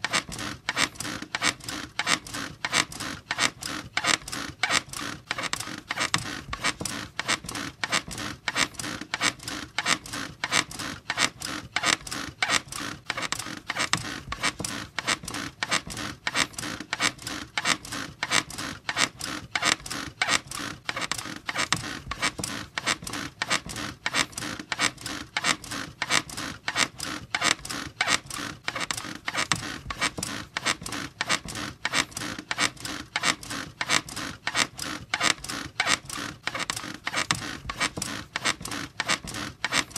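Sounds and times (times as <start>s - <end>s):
bed squeaking rhythmically: 0.0s - 39.9s.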